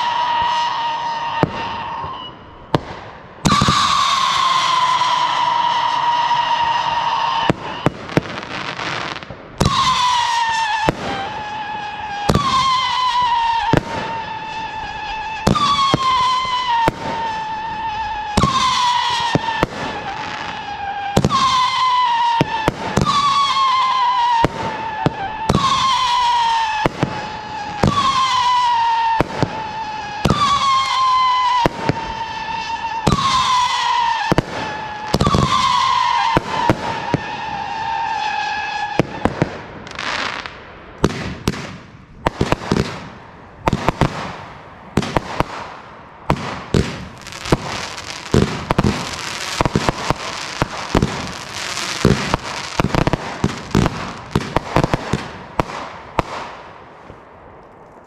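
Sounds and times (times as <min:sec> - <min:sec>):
firework crackling bursts: 0:00.0 - 0:57.3
firework bangs: 0:00.0 - 0:58.0
whistling firework shots: 0:00.0 - 0:58.0.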